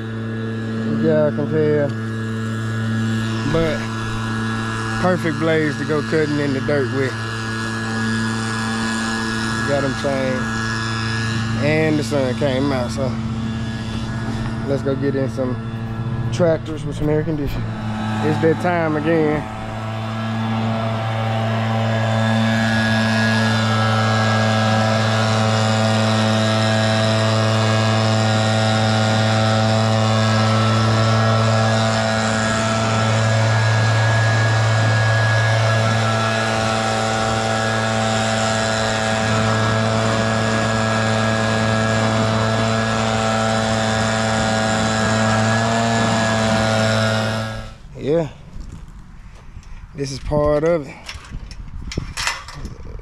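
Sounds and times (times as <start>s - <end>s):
leaf blower running: 0.0s - 51.2s.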